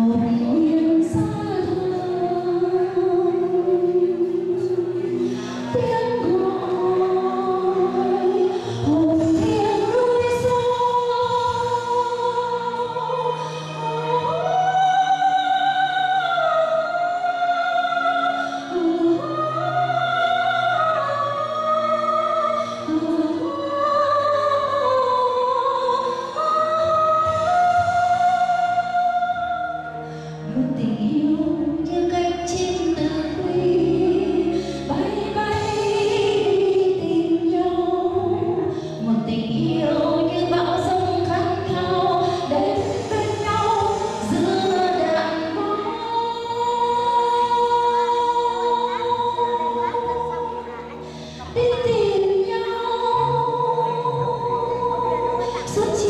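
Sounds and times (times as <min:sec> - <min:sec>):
musical accompaniment: 0:00.0 - 0:56.0
woman singing into a microphone: 0:00.0 - 0:56.0.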